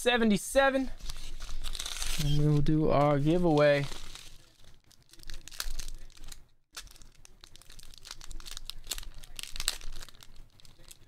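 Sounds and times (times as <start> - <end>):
plastic bag crinkling: 1.0 - 11.0.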